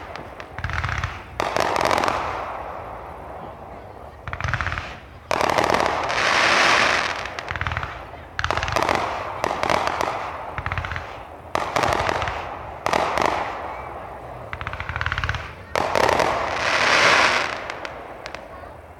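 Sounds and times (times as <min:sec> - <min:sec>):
fireworks bangs: 0:00.0 - 0:18.9
fireworks crackling: 0:00.0 - 0:18.9.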